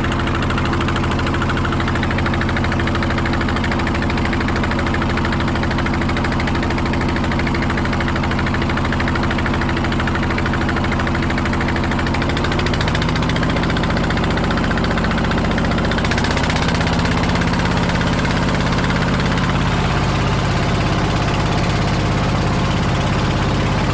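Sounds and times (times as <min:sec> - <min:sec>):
engine running: 0:00.0 - 0:23.9.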